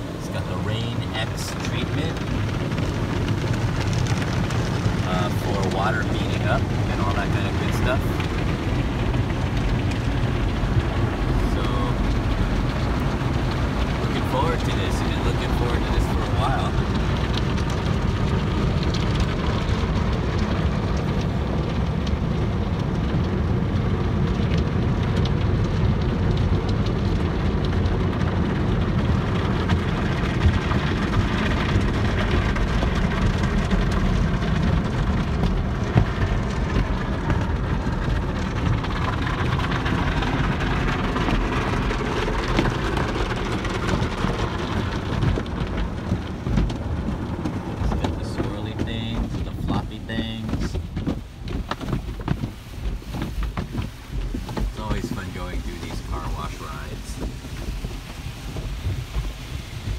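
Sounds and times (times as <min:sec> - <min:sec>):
water spray pelting car roof: 0:00.0 - 0:59.9.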